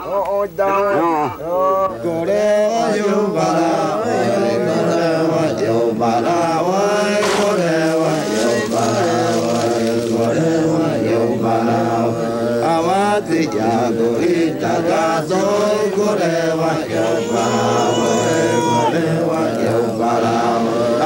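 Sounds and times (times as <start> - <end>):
voices chanting together: 0.0 - 21.0.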